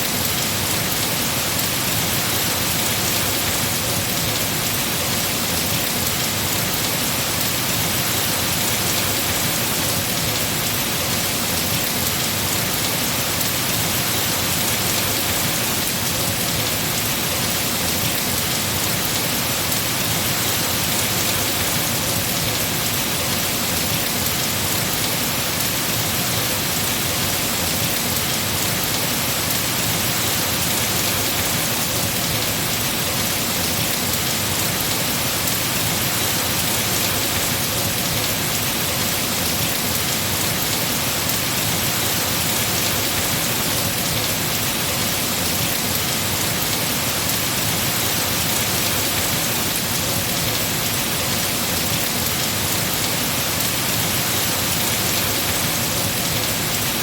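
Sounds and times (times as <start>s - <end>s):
heavy rain on trees: 0.0s - 57.0s.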